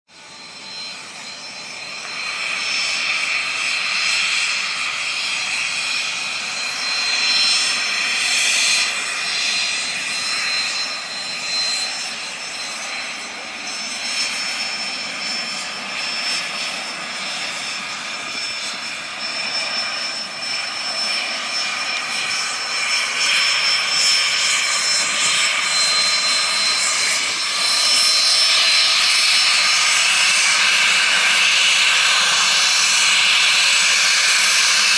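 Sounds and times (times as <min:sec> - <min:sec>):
jet engines whining: 0:00.1 - 0:34.9.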